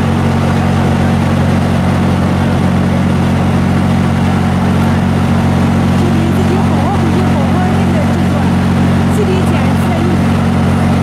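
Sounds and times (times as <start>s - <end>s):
wood chipper engine running: 0.0s - 11.0s.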